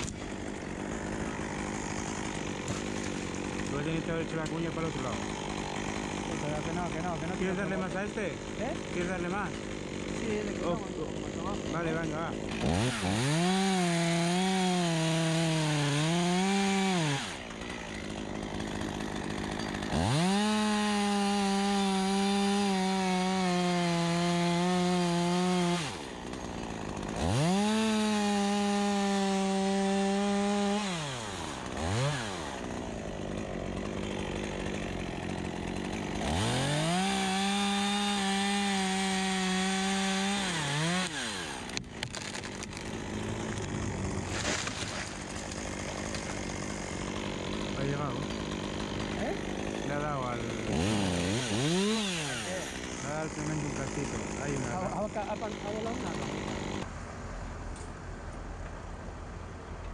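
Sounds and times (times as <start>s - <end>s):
chainsaw cutting wood: 0.0s - 56.9s
chainsaw idling: 0.0s - 56.9s.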